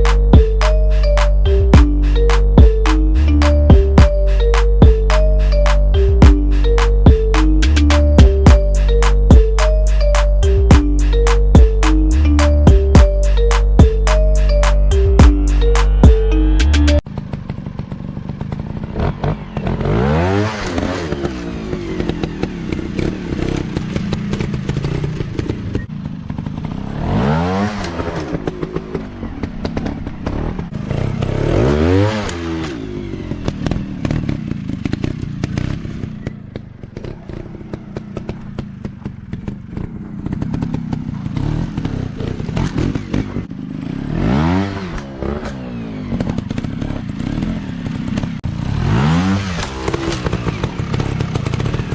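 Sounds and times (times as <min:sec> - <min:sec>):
dirt bike engines revving: 0:00.0 - 0:51.9.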